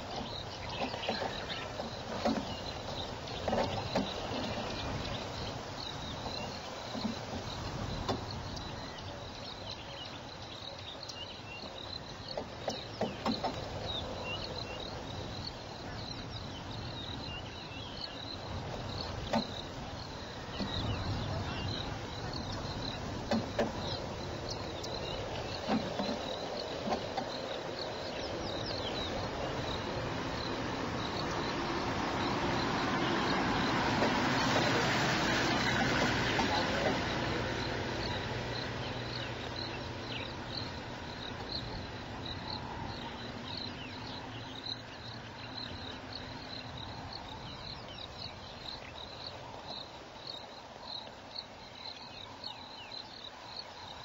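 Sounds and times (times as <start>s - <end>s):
insects chirping: 0.0s - 54.0s
steady hiss: 0.0s - 54.0s.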